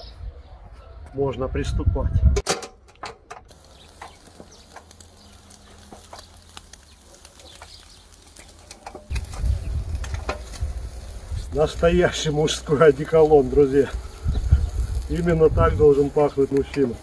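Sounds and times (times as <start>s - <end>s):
fire crackling: 2.8s - 17.0s.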